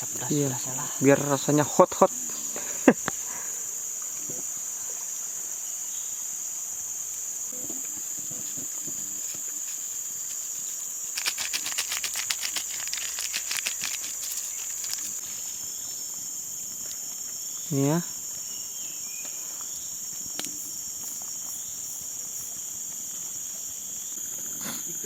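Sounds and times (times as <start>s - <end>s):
forest insects chorus: 0.0s - 25.0s.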